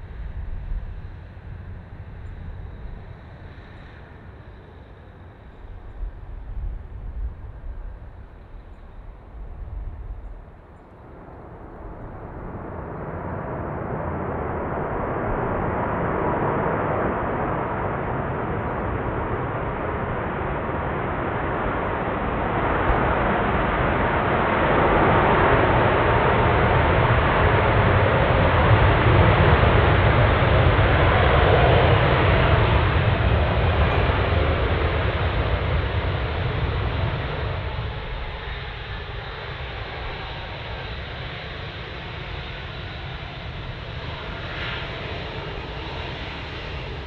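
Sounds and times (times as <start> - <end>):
jet engine noise: 0.0 - 47.0.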